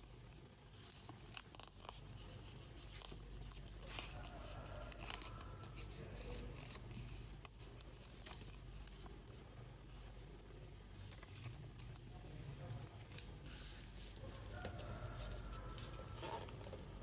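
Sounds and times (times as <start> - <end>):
low steady hum: 0.0 - 17.0
paper being folded and creased: 0.7 - 9.2, 9.9 - 12.0, 12.8 - 17.0.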